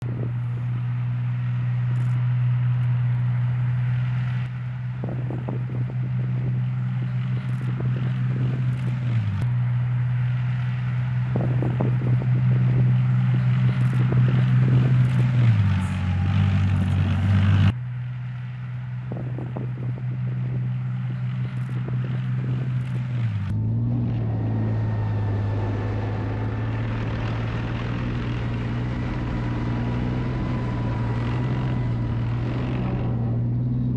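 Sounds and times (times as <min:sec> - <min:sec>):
tank engines droning: 0:00.0 - 0:33.9.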